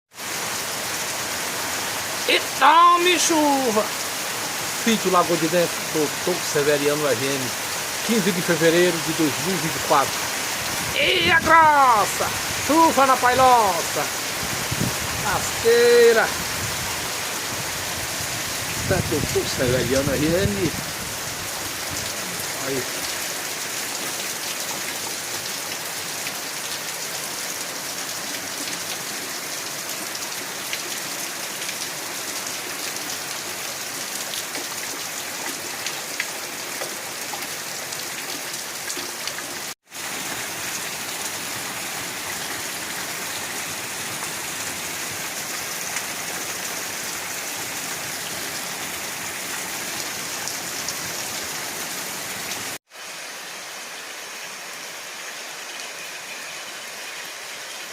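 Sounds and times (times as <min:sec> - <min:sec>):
heavy rain falling: 0:00.1 - 0:57.9.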